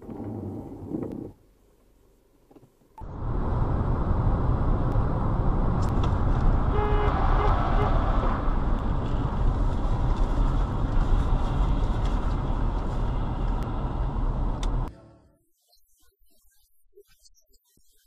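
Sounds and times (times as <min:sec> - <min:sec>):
road and engine noise inside car: 0:00.0 - 0:15.0.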